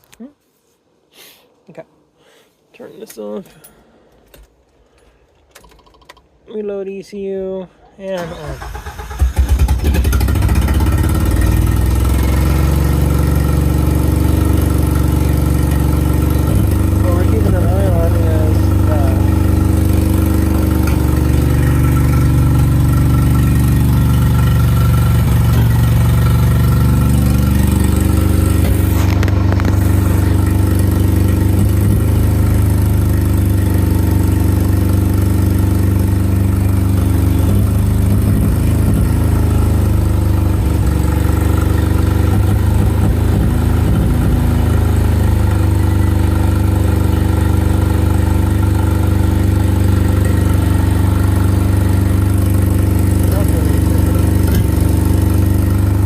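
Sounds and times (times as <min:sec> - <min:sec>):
car engine idling: 0:08.2 - 0:56.0.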